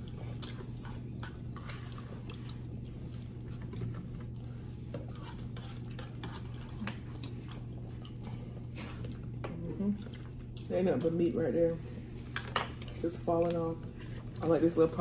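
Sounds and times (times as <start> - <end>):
chewing food: 0.0 - 15.0
steady low hum: 0.0 - 15.0.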